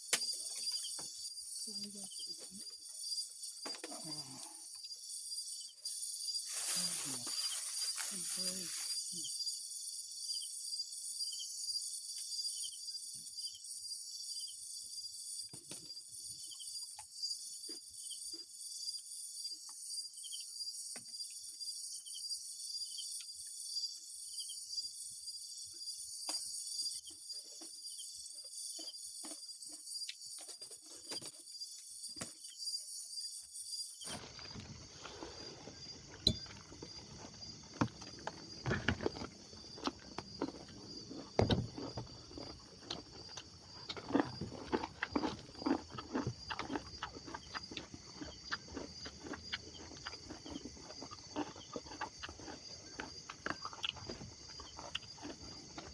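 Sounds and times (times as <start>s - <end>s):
insects trilling: 0.0s - 55.9s
pulsed insect chirp: 0.0s - 55.9s.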